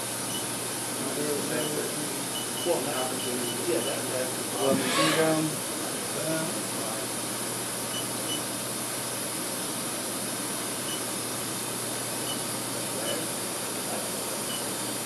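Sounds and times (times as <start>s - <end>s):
machine whirring hiss: 0.0s - 15.0s.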